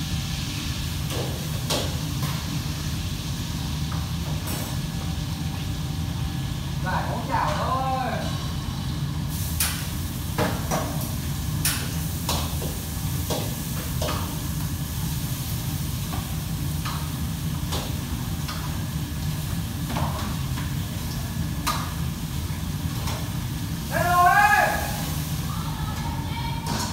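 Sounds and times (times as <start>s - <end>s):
food sizzling in pan: 0.0s - 26.4s.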